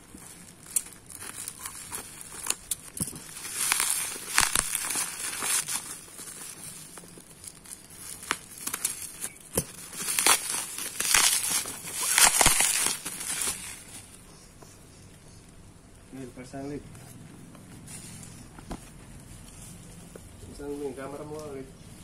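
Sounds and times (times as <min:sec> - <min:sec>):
bubble wrap crinkling: 0:00.0 - 0:14.8, 0:16.9 - 0:21.8.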